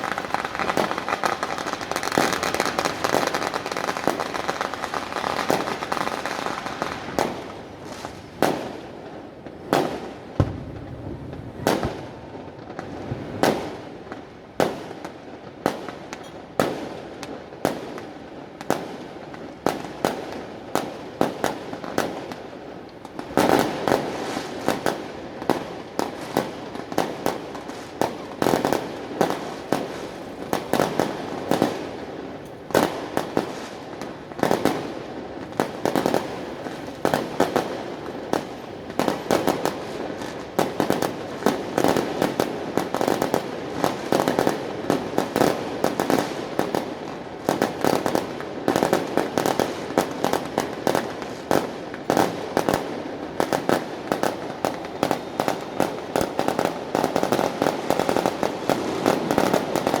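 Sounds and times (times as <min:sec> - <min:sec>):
fireworks bangs: 0:00.0 - 0:17.0, 0:19.6 - 1:00.0
firecrackers crackling: 0:00.0 - 1:00.0.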